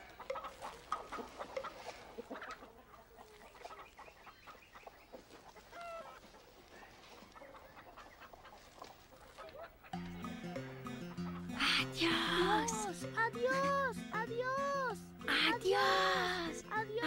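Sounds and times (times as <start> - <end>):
chickens clucking: 0.0 - 13.8.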